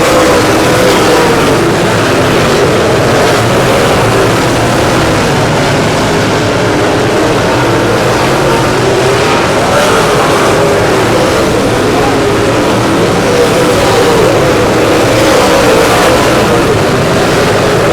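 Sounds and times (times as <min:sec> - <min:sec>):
race car engines running hard: 0:00.0 - 0:17.9.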